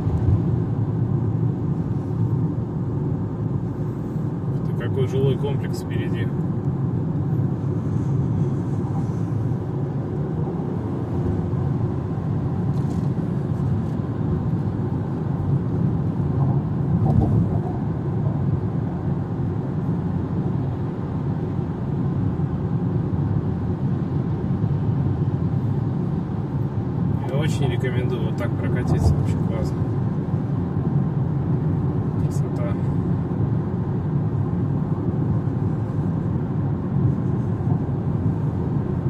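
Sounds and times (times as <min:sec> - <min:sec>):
low engine hum: 0:00.0 - 0:39.0
road and tyre noise: 0:00.0 - 0:39.0.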